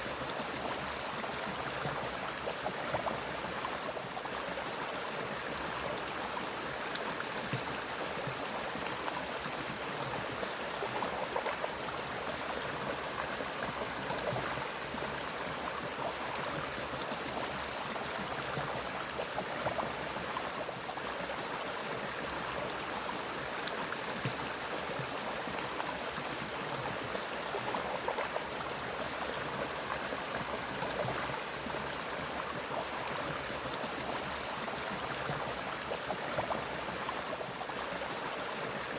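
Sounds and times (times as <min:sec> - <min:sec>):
stream gurgling over rocks: 0:00.0 - 0:38.9.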